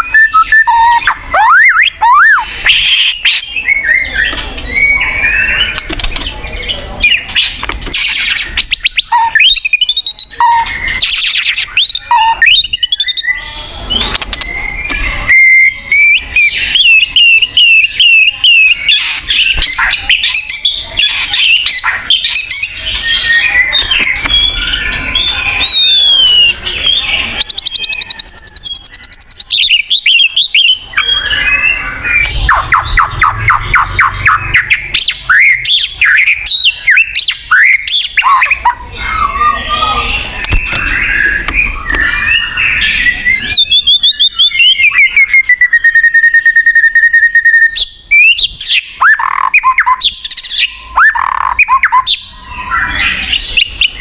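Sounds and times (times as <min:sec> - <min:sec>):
bird singing whistles and trills: 0:00.0 - 0:54.0.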